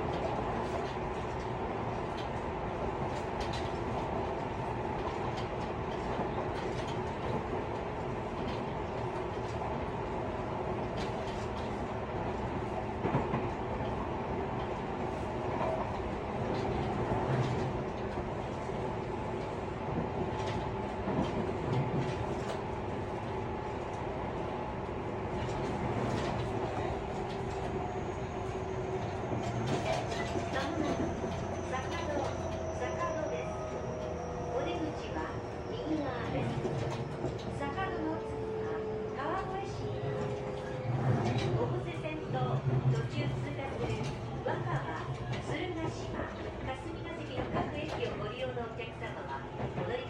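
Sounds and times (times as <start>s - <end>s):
train interior rumble: 0.0s - 50.0s.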